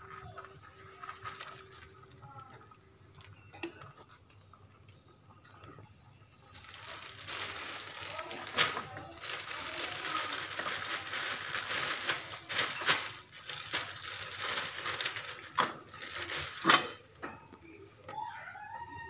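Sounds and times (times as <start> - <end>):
crackling rustle: 0.0 - 18.1.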